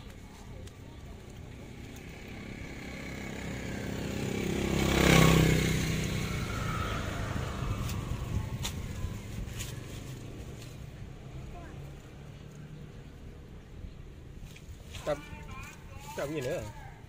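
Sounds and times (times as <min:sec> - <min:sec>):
vehicle engine passing by: 0:01.0 - 0:17.0.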